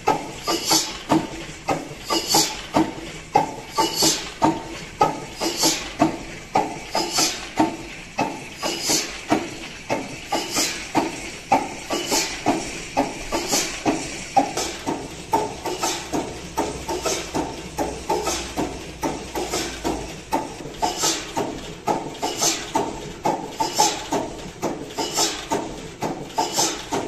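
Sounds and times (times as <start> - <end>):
large diesel engines knocking: 0.0 - 27.0.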